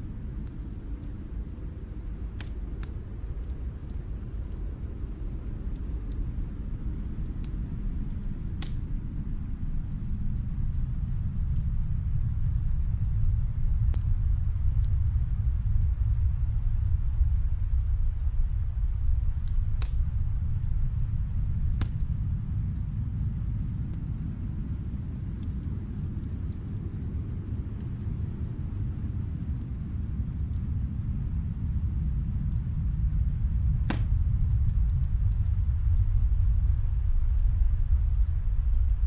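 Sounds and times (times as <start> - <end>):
fire crackling and popping: 0.0 - 39.0
low fire rumble: 0.0 - 39.0.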